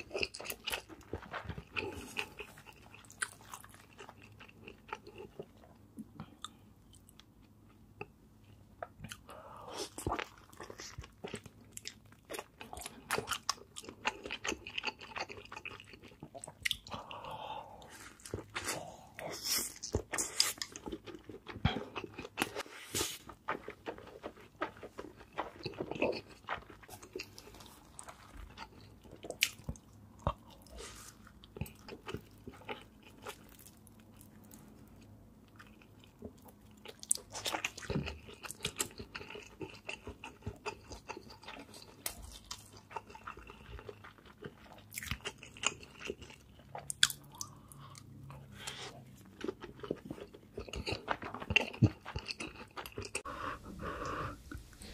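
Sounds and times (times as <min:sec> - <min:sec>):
chewing crunches: 0:00.0 - 0:08.1, 0:08.8 - 0:54.9.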